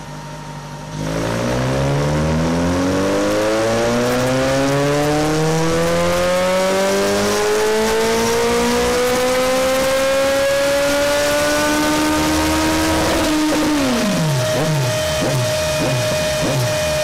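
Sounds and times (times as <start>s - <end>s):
motorcycle engine revving under load: 0.8s - 17.0s.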